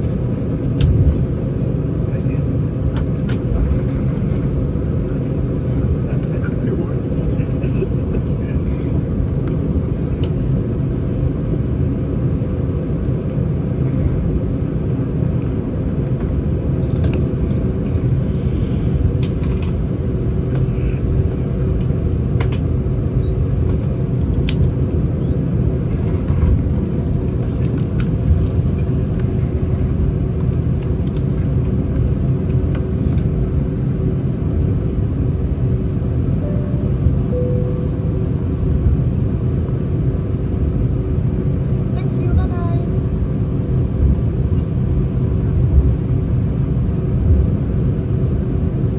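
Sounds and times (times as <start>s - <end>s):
aircraft engine rumble: 0.0s - 48.9s.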